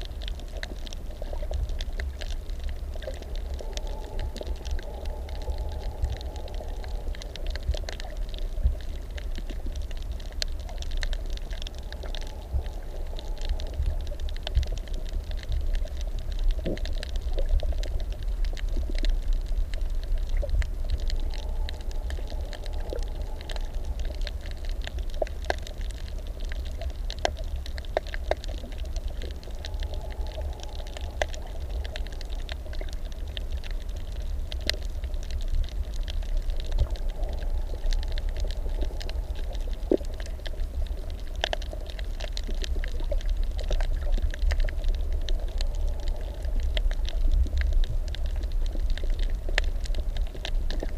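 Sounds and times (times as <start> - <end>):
crackling clicks: 0.0 - 50.9
low underwater rumble: 0.0 - 50.9.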